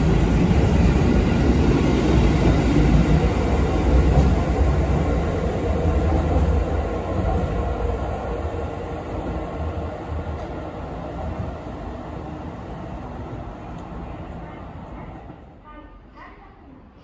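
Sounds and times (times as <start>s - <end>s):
electric train running rumble: 0.0s - 15.5s.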